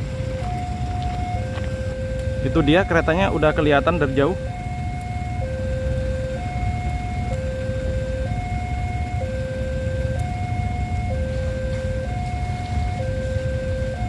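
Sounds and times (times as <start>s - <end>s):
two-tone level-crossing alarm: 0.0s - 14.0s.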